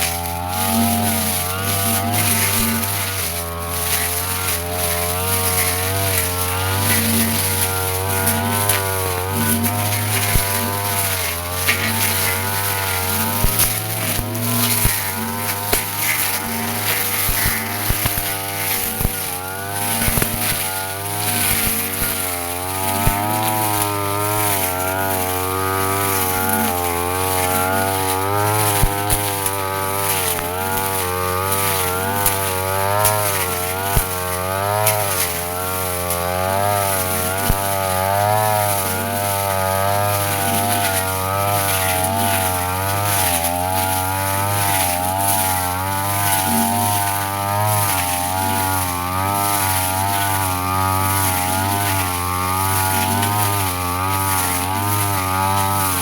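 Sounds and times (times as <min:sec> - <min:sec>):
brush cutter cutting grass: 0:00.0 - 0:56.0.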